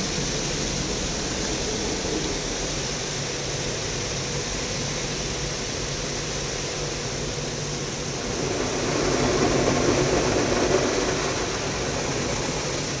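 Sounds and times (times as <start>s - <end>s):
car wash machinery rushing: 0.0s - 13.0s.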